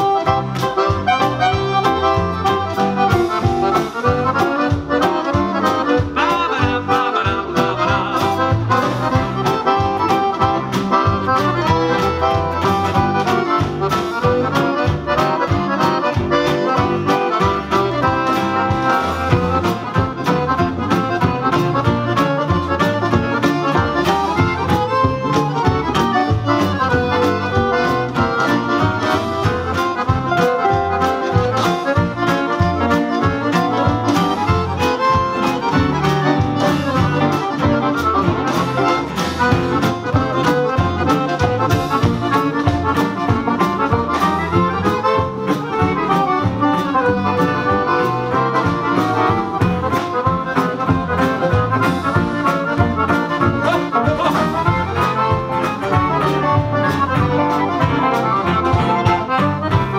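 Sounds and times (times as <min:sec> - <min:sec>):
accordions: 0:00.0 - 0:59.9
drums: 0:00.0 - 0:59.9
guitar: 0:00.0 - 0:59.9
upright bass: 0:00.0 - 0:59.9.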